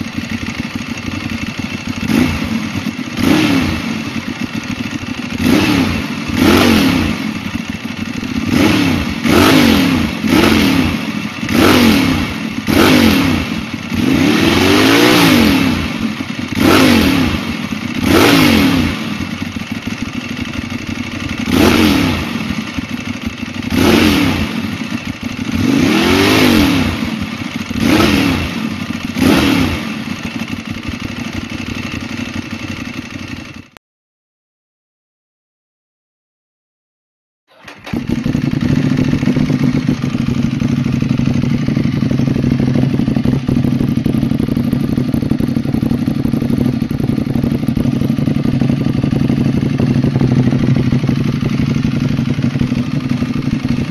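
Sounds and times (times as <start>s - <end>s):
motorcycle engine revving: 0.0s - 33.8s, 37.5s - 53.9s.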